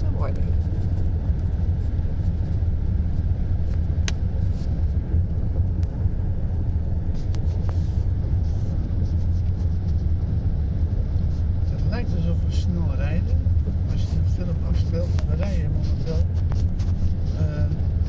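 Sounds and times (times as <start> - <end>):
car rumbling over rough road: 0.0 - 18.0.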